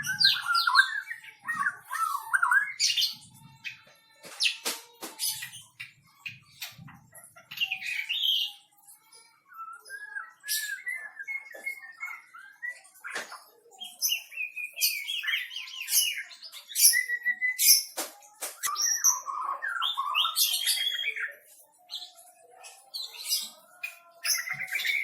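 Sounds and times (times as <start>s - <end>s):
bird whistles and trills: 0.0s - 25.0s.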